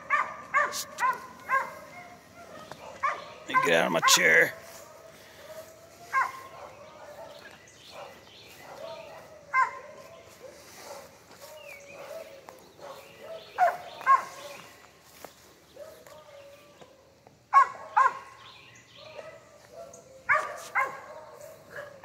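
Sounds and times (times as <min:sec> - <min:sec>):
dog barking: 0:00.0 - 0:14.7, 0:15.7 - 0:16.2, 0:17.5 - 0:18.4, 0:19.0 - 0:22.0.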